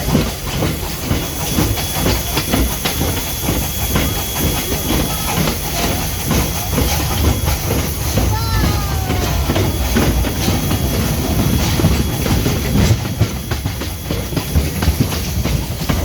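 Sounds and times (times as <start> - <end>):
steam train rumble and hiss: 0.0 - 16.0
train clacks and knocks: 0.0 - 16.0.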